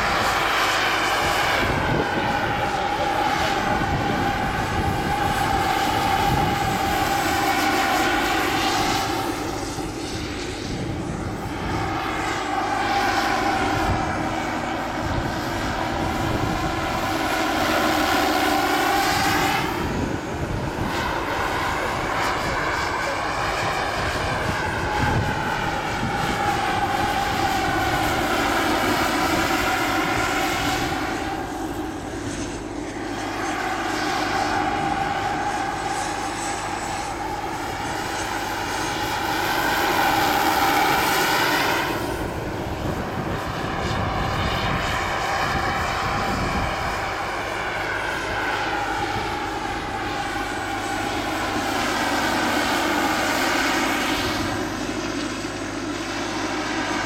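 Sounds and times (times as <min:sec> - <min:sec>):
model helicopter turbine whine: 0:00.0 - 0:57.0.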